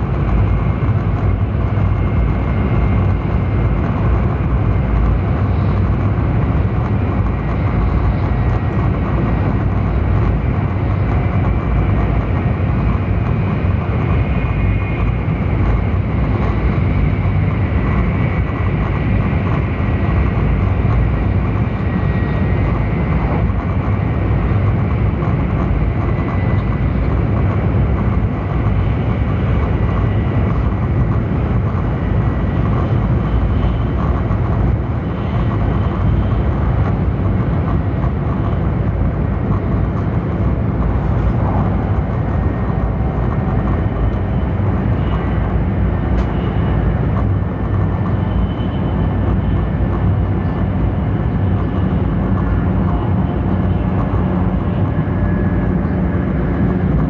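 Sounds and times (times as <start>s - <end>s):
air rushing past train: 0.0s - 57.0s
train wheels rumbling on rail: 0.0s - 57.0s.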